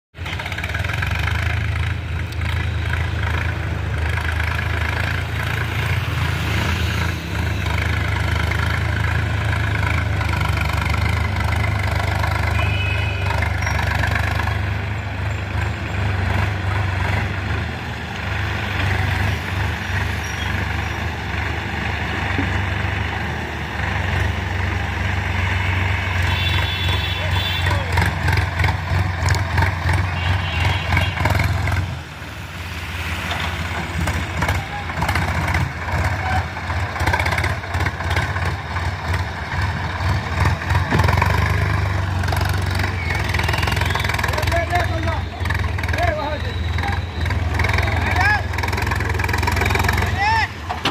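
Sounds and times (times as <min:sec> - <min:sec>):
tractor diesel engine running: 0:00.1 - 0:50.9.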